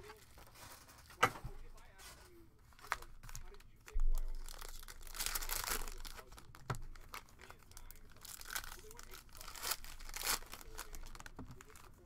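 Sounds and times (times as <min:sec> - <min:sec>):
foil wrappers crinkling and tearing: 0:00.0 - 0:12.0.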